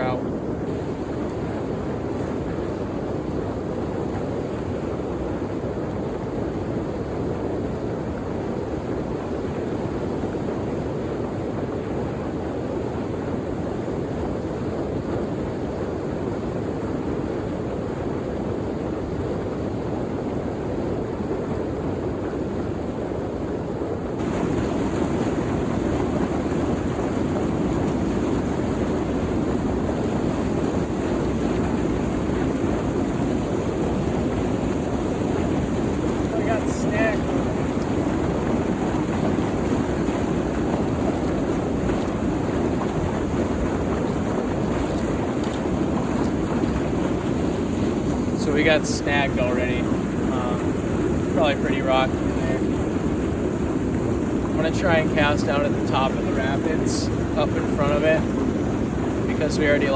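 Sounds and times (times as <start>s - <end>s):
water rushing over dam: 0.0s - 59.9s.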